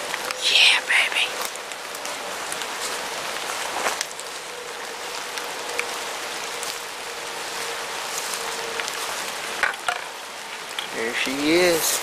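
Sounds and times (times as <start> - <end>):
light rain on leaves: 0.0 - 12.0.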